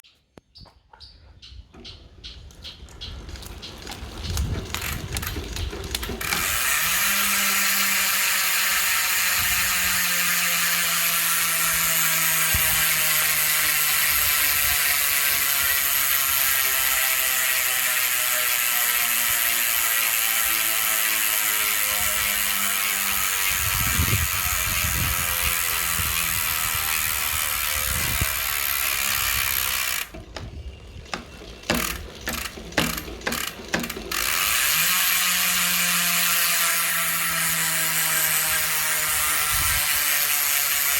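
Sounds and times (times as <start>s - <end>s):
bicycle hub ratchet clicking: 3.4s - 30.2s, 31.1s - 40.9s.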